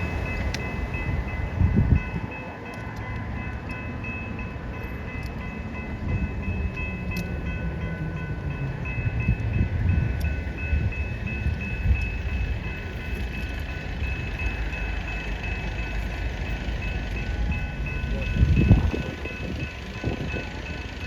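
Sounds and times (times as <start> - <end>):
level crossing bells ringing: 0.0 - 21.0
train rumbling past: 0.0 - 21.0.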